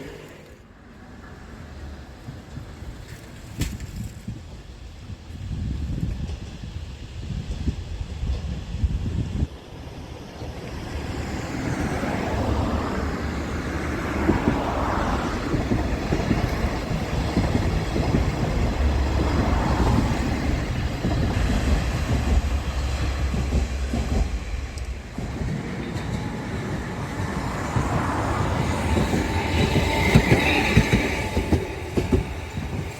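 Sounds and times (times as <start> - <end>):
diesel railcar engine drone: 0.0 - 32.9
train wheels on rails: 0.0 - 32.9.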